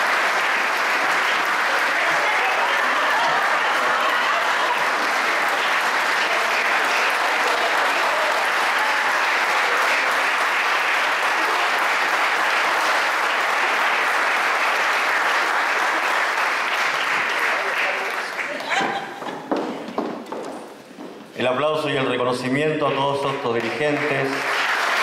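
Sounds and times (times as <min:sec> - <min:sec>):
audience applauding: 0:00.0 - 0:19.5, 0:23.0 - 0:25.0.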